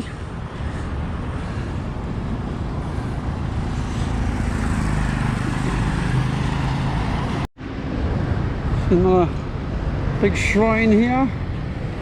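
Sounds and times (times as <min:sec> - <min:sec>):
engine hum: 0:00.0 - 0:10.2
road traffic rumbling: 0:00.0 - 0:12.0.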